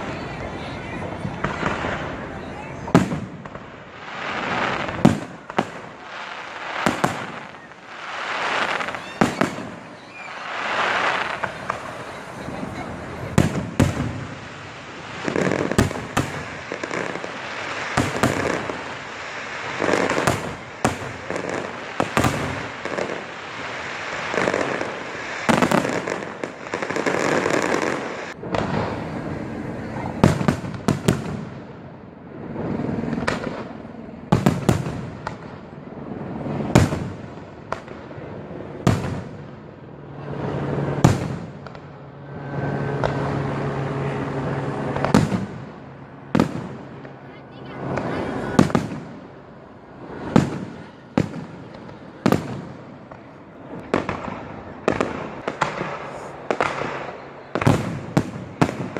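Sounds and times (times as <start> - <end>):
fireworks bangs: 0.0 - 58.9.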